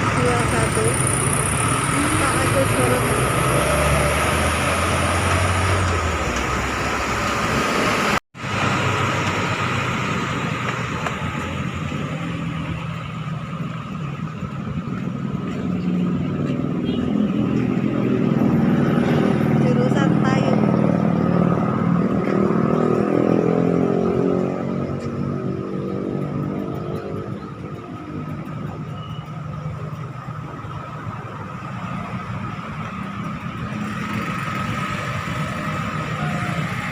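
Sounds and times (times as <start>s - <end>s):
road and tyre noise: 0.0s - 36.9s
vehicle engine hum: 0.0s - 36.9s.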